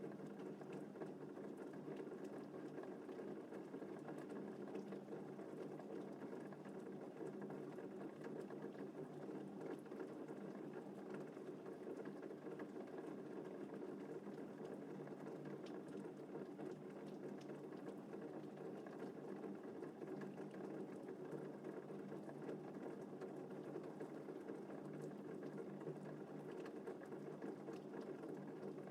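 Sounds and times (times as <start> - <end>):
gentle rain patter: 0.0 - 28.9.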